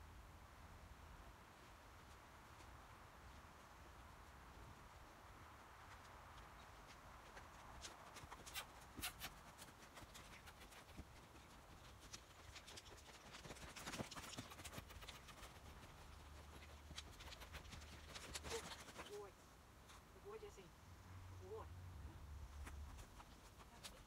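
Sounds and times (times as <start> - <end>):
hoofbeats in deep sand: 1.2 - 19.4, 22.5 - 24.0.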